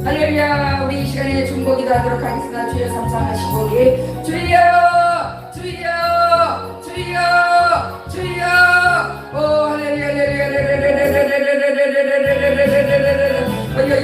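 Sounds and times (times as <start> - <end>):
bass line: 0.0 - 14.0
gospel keyboard: 0.0 - 14.0
person singing: 0.0 - 14.0.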